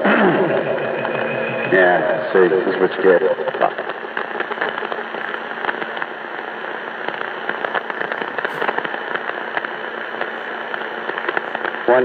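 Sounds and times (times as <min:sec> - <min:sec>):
radio static with crackling pops: 0:00.0 - 0:12.0.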